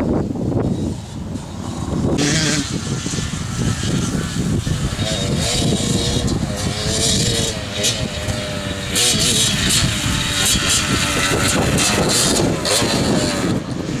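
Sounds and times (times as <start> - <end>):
dirt bike engine revving: 0.5 - 14.0.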